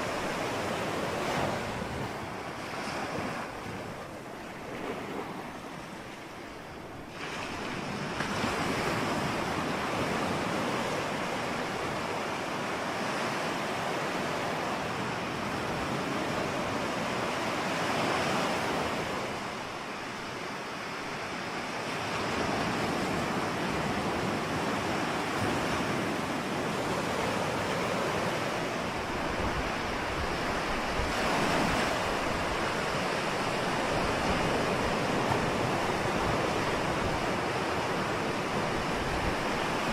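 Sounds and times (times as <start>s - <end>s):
ocean surf washing in: 0.0s - 39.9s.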